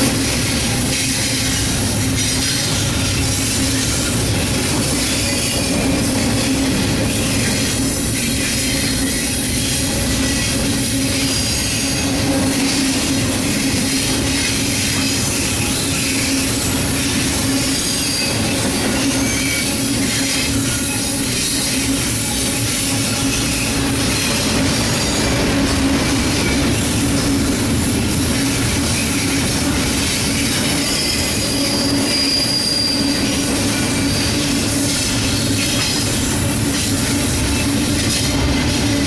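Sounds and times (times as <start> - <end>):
train wheels rumbling: 0.0 - 39.0
wheel squeals: 0.3 - 25.4, 28.1 - 38.3.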